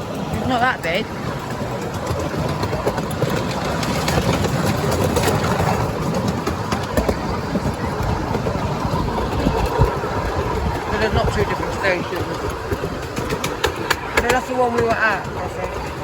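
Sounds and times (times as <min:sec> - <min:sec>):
train rumbling and rattling: 0:00.0 - 0:16.0.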